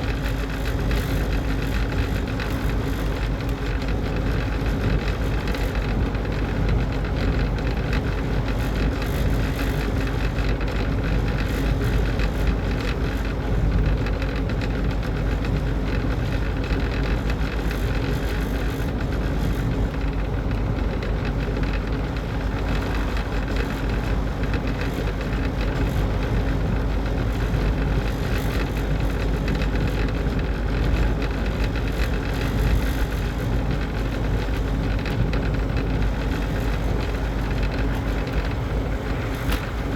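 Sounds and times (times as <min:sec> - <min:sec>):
exhaust fan motor hum: 0:00.0 - 0:39.9.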